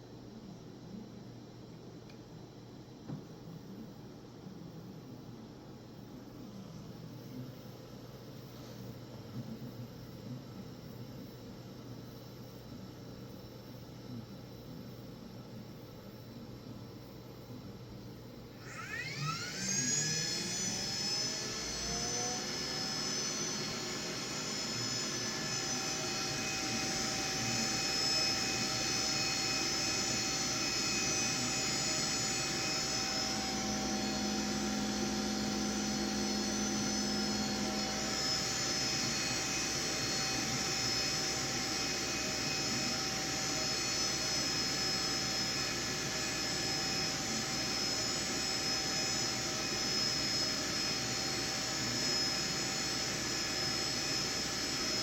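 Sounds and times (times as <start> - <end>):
cooling fans whirring: 0.0 - 55.0.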